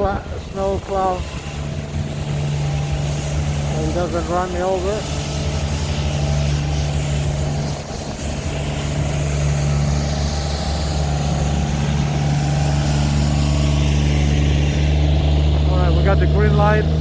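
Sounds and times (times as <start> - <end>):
city traffic: 0.0 - 17.0
truck engine droning: 0.0 - 17.0.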